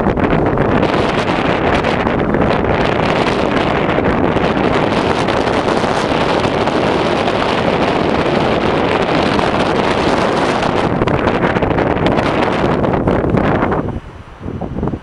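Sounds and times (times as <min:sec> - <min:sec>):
wind blowing over microphone: 0:00.0 - 0:15.0.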